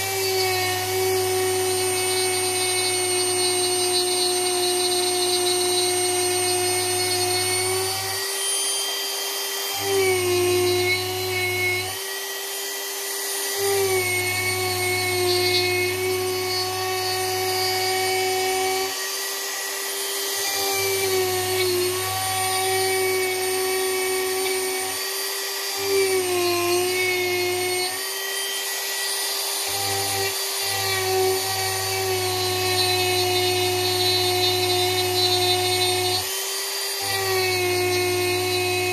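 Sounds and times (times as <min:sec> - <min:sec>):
rotary tool carving wood: 0:00.0 - 0:38.9.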